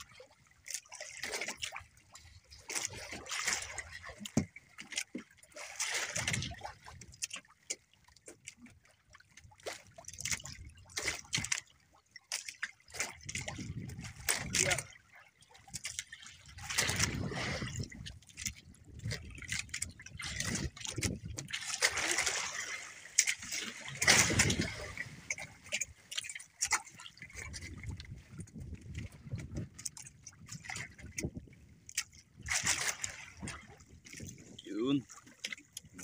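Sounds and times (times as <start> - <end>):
water splashing against boat: 0.0 - 36.0.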